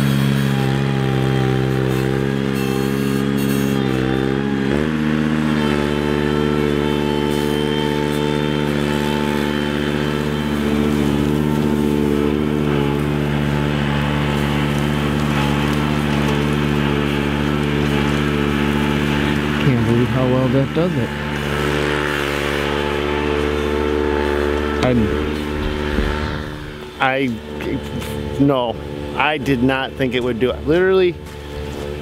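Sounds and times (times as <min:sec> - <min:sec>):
tractor engine running under load: 0:00.0 - 0:32.0.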